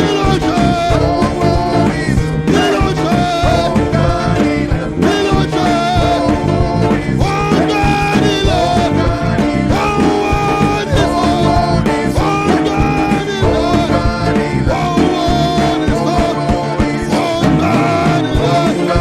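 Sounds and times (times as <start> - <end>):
band playing upbeat music: 0.0 - 19.0
people singing: 0.0 - 19.0.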